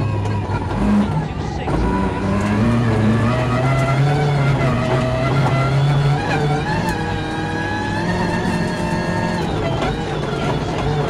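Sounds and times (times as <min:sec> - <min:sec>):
car engine pulling from cabin: 0:00.0 - 0:11.0.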